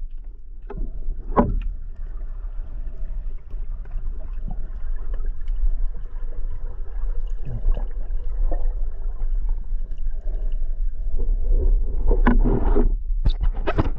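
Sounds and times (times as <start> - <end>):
water sloshing and gurgling: 0.0 - 13.9.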